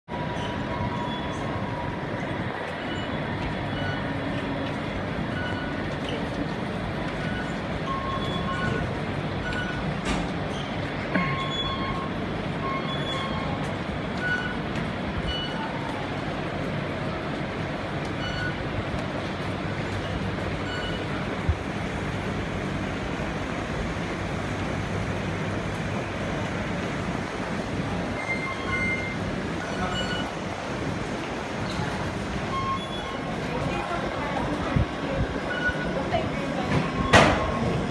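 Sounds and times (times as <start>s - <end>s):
rail noise: 0.1s - 37.9s
ventilation fans blowing: 0.1s - 37.9s.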